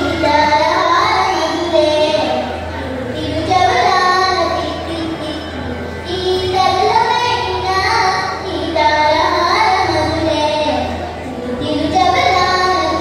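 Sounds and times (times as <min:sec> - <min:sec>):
girl singing into microphone: 0:00.0 - 0:13.0.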